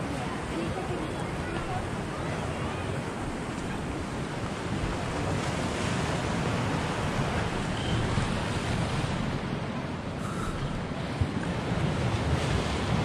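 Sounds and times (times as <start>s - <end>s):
waves washing against rocks: 0.0s - 13.0s
wind buffeting microphone: 0.0s - 13.0s.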